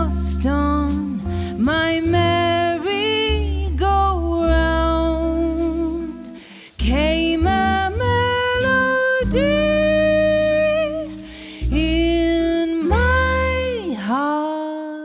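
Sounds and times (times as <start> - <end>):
double bass: 0.0 - 14.2
woman singing jazz ballad: 0.0 - 15.0.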